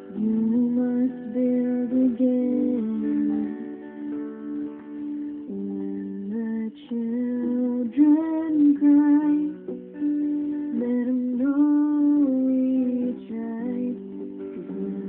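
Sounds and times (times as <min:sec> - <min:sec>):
electric and acoustic guitars playing: 0:00.0 - 0:15.0.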